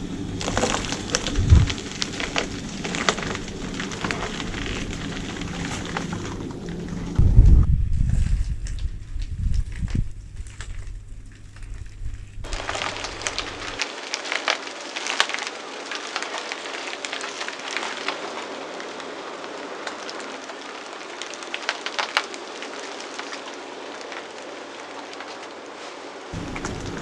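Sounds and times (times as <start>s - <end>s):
tyre crushing brittle material: 0.4s - 27.0s.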